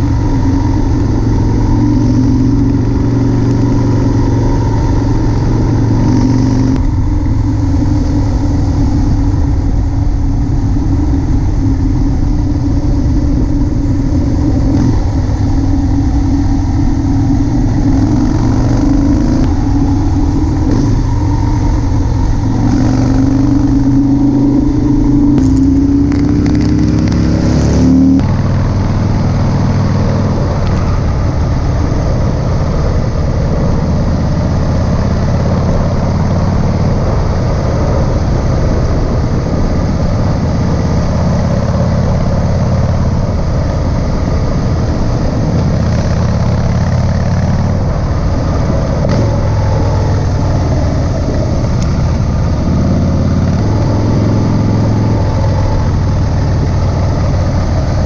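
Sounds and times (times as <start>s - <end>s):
motorcycle engine accelerating: 0.0s - 58.0s
road and wind noise: 0.0s - 58.0s.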